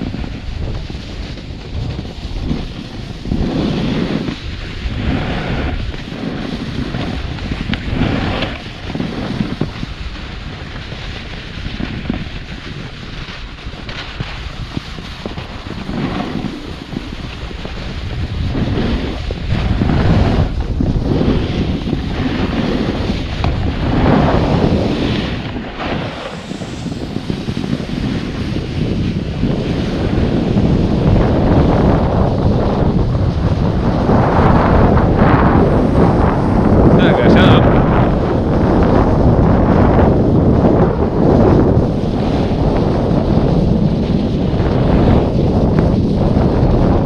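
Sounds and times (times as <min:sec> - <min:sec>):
snowboard scraping over snow: 0:00.0 - 0:47.0
wind on camera microphone: 0:00.0 - 0:47.0.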